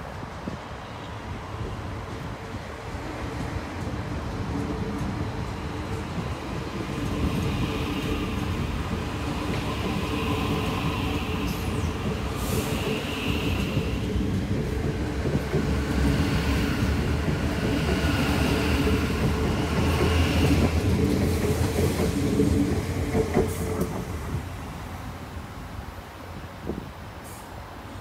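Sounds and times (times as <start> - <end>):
train wheels clattering on rails: 1.6 - 24.6.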